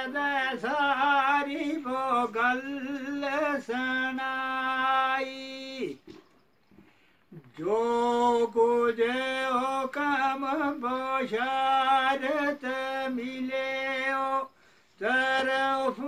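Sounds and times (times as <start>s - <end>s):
man singing unaccompanied: 0.0s - 6.2s, 7.3s - 16.0s.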